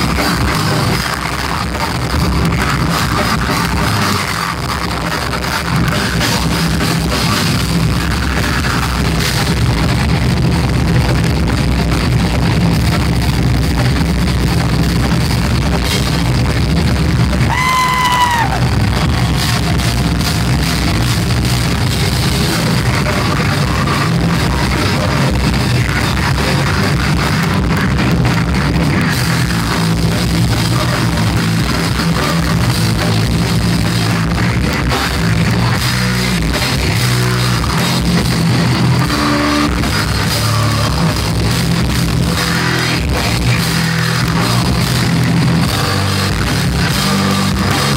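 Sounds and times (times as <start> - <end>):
heavy metal band playing live: 0.0 - 47.9.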